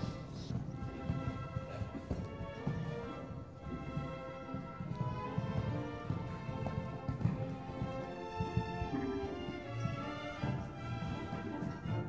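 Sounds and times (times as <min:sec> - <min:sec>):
horse hoofbeats on sand: 0:00.0 - 0:12.0
orchestral music: 0:00.0 - 0:12.0.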